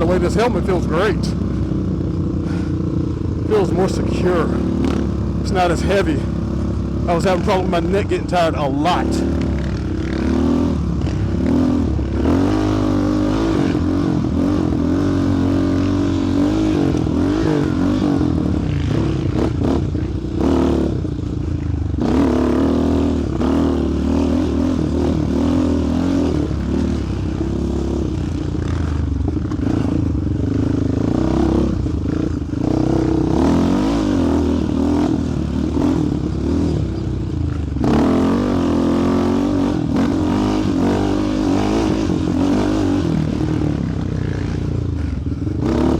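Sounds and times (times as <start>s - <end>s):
quad engine revving: 0.0s - 21.2s, 22.0s - 45.9s.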